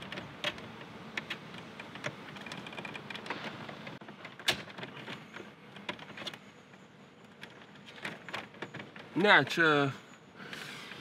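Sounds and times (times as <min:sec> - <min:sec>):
clicks and knocks of car parts: 0:00.0 - 0:09.2.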